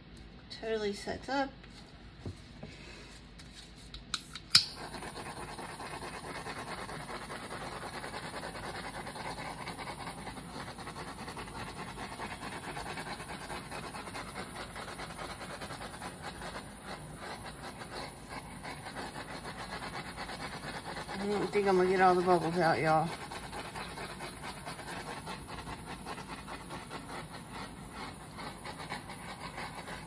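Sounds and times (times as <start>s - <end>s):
heat tool hissing: 4.5s - 30.0s.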